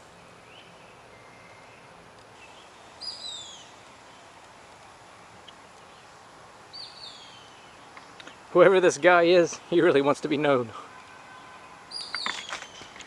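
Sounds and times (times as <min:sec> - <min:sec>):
birds calling: 0:00.0 - 0:13.0
outdoor background hiss: 0:00.0 - 0:13.0.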